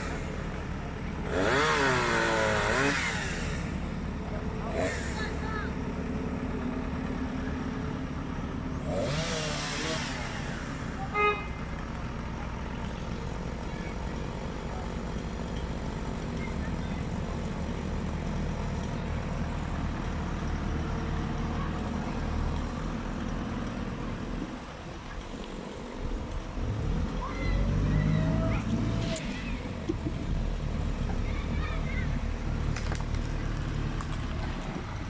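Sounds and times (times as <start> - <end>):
heavy vehicle engine idling: 0.0 - 35.0.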